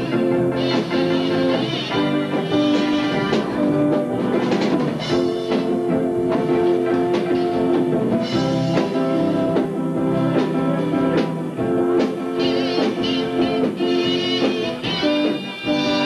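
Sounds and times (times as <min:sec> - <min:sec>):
drum kit beats: 0:00.0 - 0:16.0
guitar: 0:00.0 - 0:16.0.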